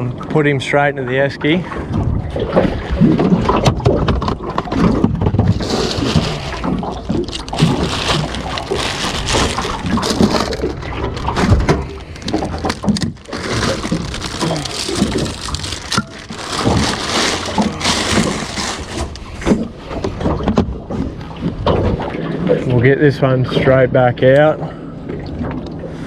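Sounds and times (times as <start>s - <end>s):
water sloshing and gurgling: 0.0s - 26.0s.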